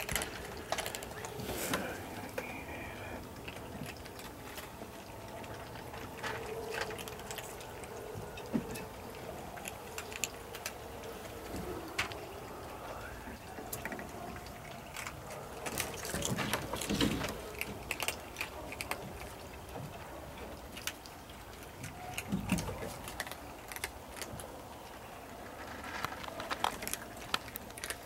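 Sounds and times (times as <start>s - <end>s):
cats crunching dry kibble: 0.0s - 28.0s.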